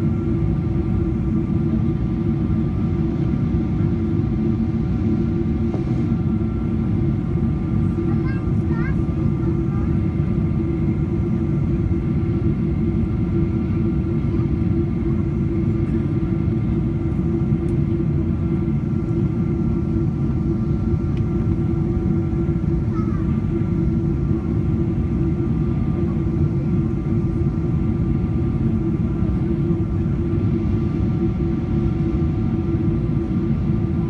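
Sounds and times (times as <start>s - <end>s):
airliner cabin rumble: 0.0s - 34.0s.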